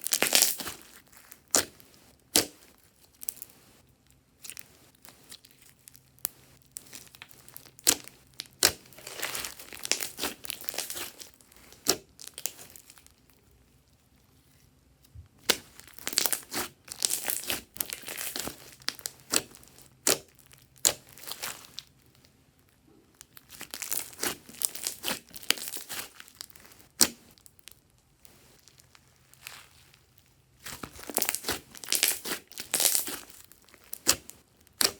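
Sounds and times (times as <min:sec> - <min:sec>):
slime crackling and popping: 0:00.0 - 0:03.6, 0:04.4 - 0:13.5, 0:15.4 - 0:22.3, 0:23.2 - 0:34.9.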